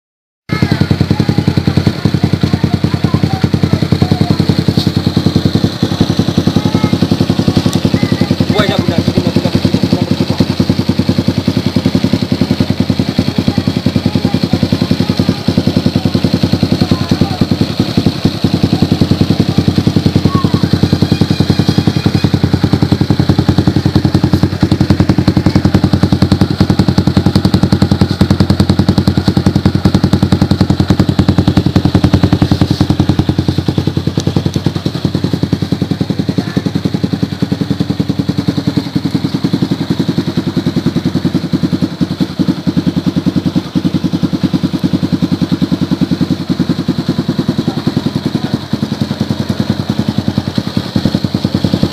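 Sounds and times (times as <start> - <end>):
motorcycle engine idling: 0.5 - 51.9.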